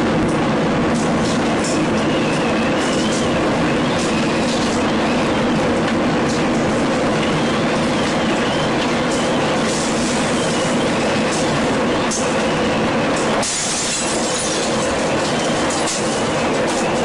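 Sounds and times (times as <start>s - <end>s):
tornado wind roaring: 0.0s - 17.0s.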